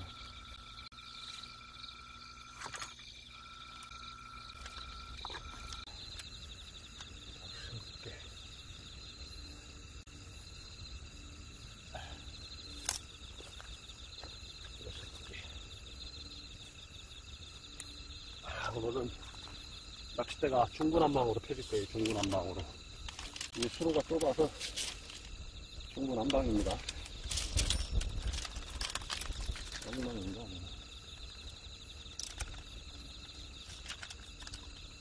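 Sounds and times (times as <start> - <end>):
crickets trilling: 0.0 - 35.0.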